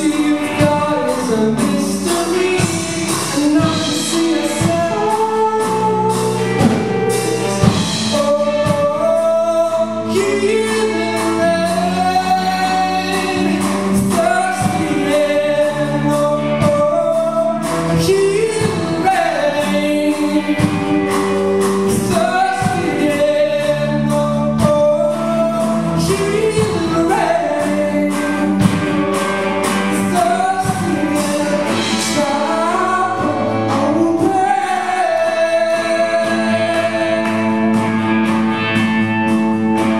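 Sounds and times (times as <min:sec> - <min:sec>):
man singing into microphone: 0:00.0 - 0:38.2
live band accompaniment: 0:00.0 - 0:39.9.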